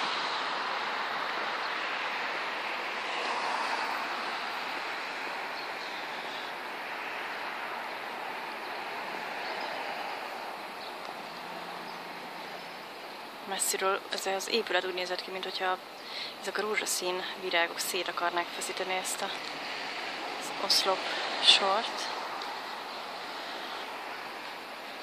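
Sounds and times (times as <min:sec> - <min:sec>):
street traffic hiss: 0:00.0 - 0:25.0.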